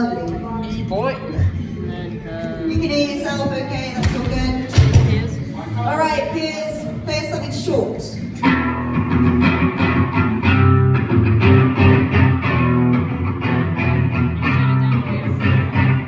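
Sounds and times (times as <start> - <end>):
electric guitar strumming chords: 1.4 - 16.0.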